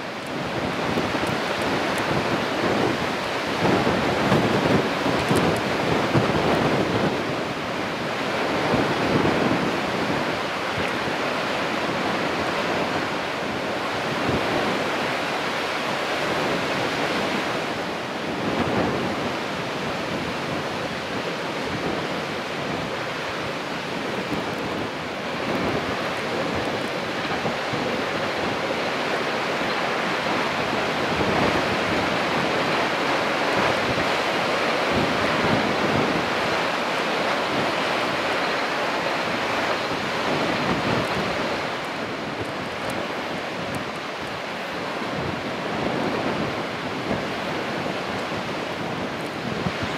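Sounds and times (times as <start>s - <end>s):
strong wind on microphone: 0.0s - 49.9s
waves on choppy sea: 0.0s - 49.9s.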